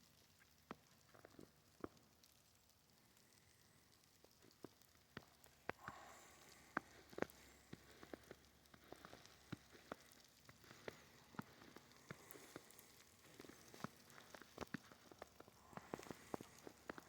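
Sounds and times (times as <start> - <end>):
snow ticking and pattering: 0.0 - 17.0
soft hiss: 0.0 - 17.0.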